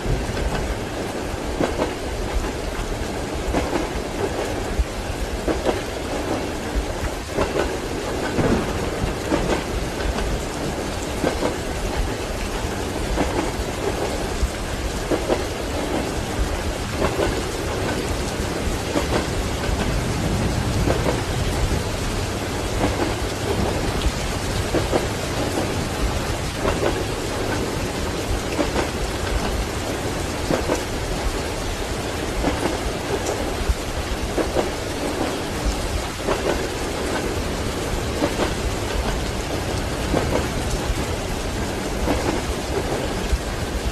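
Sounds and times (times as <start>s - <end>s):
train wheels clacking: 0.0s - 43.8s
heavy rain: 0.0s - 43.9s
rolling thunder: 0.0s - 43.9s.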